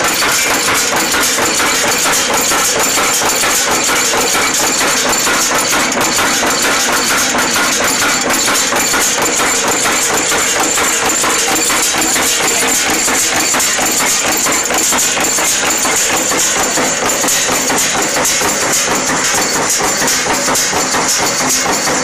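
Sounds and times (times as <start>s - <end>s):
nail making machine clattering: 0.0s - 22.0s.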